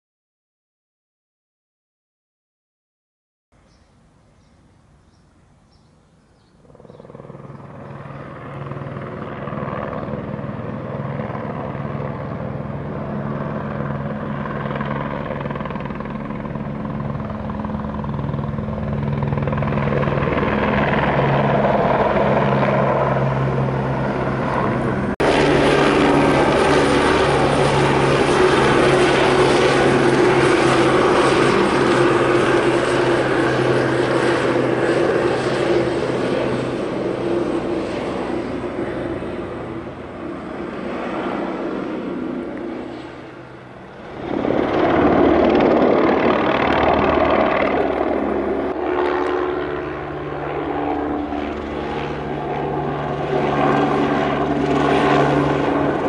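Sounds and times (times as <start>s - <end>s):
helicopter rotor and engine: 6.4s - 56.0s.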